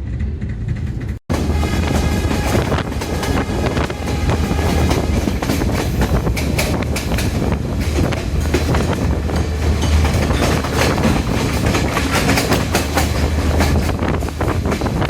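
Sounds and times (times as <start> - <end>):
train rumbling at speed: 0.0 - 15.0
wheels clattering on track: 0.0 - 15.0.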